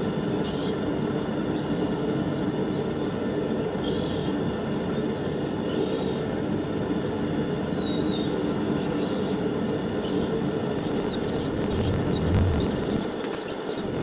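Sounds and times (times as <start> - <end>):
forge burners roaring: 0.0 - 14.0.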